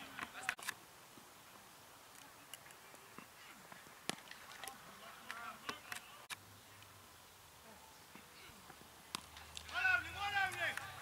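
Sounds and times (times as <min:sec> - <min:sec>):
distant indistinct voices: 0:01.4 - 0:11.0.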